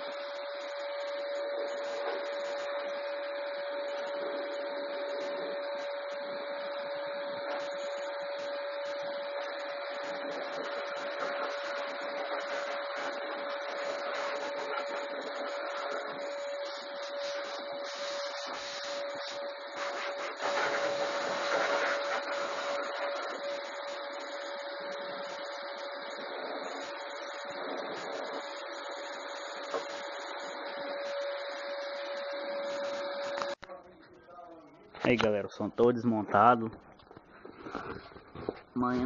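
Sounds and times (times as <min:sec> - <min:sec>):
vacuum cleaner running: 0:00.0 - 0:33.6.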